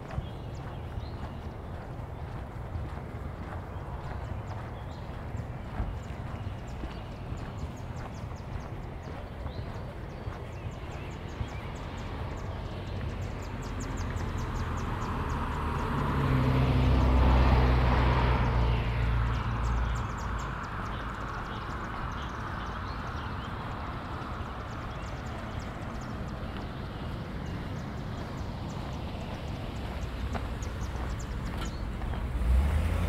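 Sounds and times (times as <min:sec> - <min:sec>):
vehicle driving past: 0:00.0 - 0:33.0.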